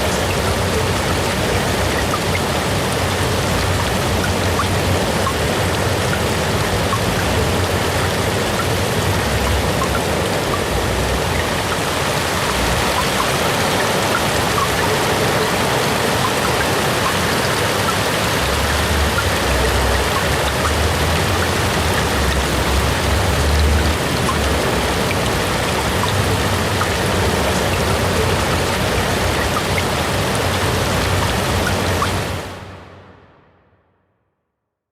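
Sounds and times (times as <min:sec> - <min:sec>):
raindrop ticks: 0:00.0 - 0:32.5
heavy rainfall: 0:00.0 - 0:33.1.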